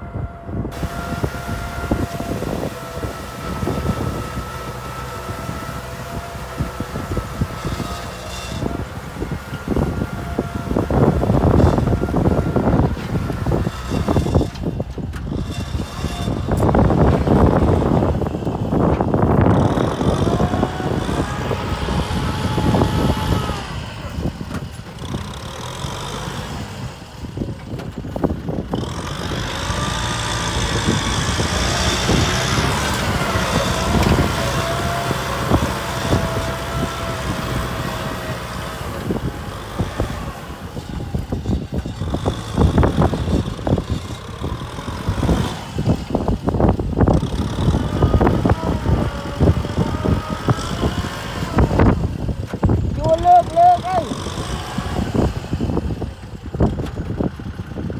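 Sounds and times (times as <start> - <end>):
tractor diesel engine under load: 0.0 - 57.9.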